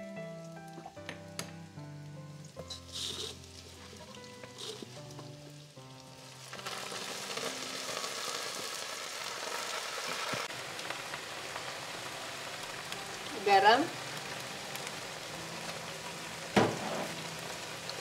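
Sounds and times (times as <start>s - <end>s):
vegetables sizzling in oil: 2.0s - 18.0s.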